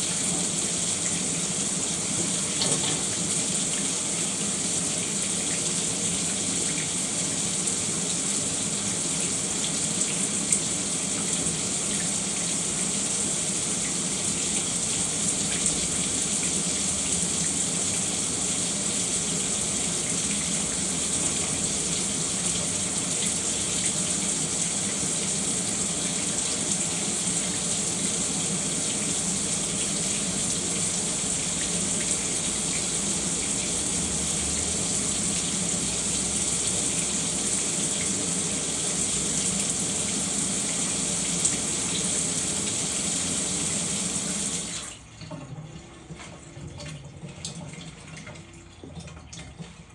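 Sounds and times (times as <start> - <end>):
shower running: 0.0 - 49.9.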